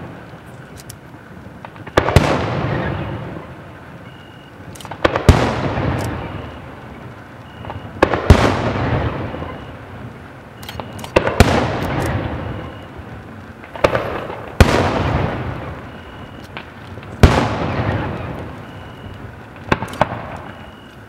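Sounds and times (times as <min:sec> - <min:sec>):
small firework pops: 0:00.0 - 0:03.2, 0:04.7 - 0:09.6, 0:10.8 - 0:21.0
firework shells bursting: 0:00.0 - 0:03.6, 0:04.6 - 0:21.0.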